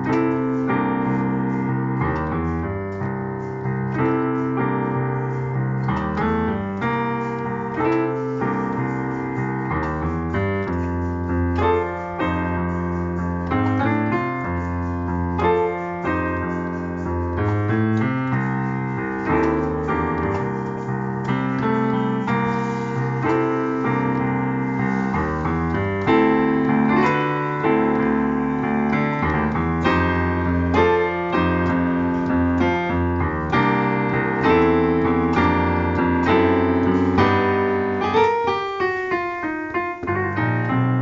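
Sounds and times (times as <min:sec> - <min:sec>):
digital piano playing blues: 0:00.0 - 0:41.0.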